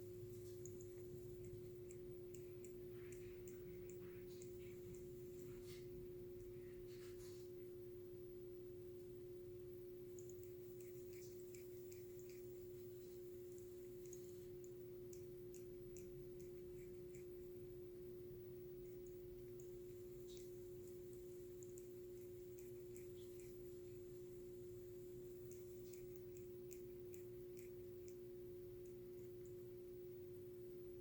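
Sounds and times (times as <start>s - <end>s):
faint scattered clicks: 0.0s - 6.6s, 10.1s - 17.6s, 18.8s - 29.6s
faint steady hum: 0.0s - 31.0s.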